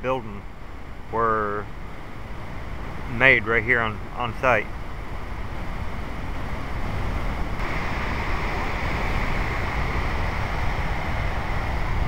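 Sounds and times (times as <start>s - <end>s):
steady rushing hiss: 0.0s - 12.0s
wind rumbling on microphone: 0.0s - 12.0s.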